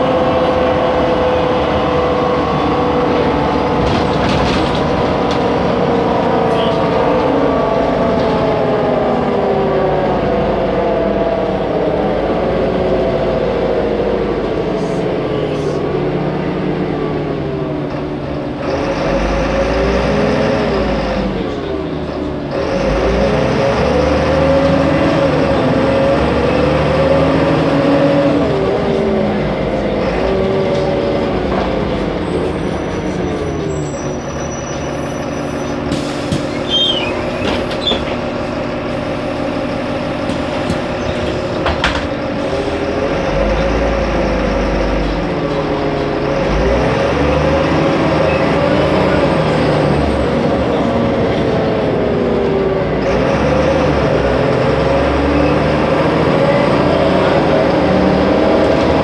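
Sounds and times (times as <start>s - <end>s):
bus engine: 0.0s - 59.0s.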